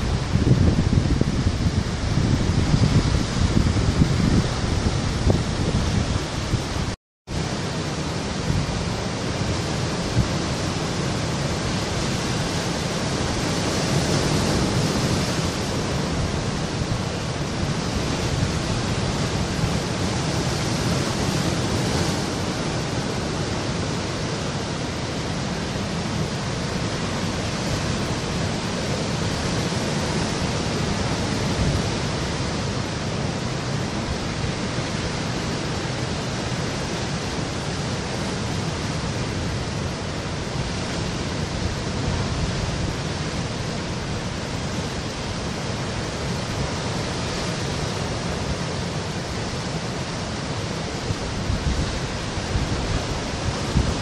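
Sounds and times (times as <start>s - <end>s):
surf breaking over rocks: 0.0s - 54.0s.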